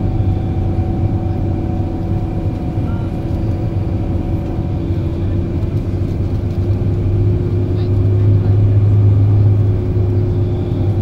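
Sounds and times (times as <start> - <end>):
bus engine and tyre drone: 0.0 - 11.0.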